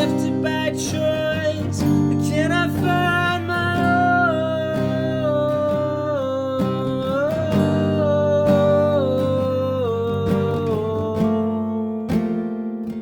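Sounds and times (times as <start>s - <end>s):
person singing: 0.0s - 12.6s
strummed acoustic guitar: 0.0s - 13.0s.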